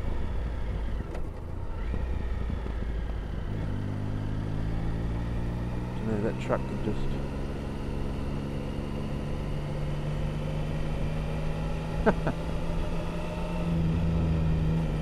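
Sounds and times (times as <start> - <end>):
motorcycle engine running: 0.0 - 15.0
wind and road rumble: 0.0 - 15.0.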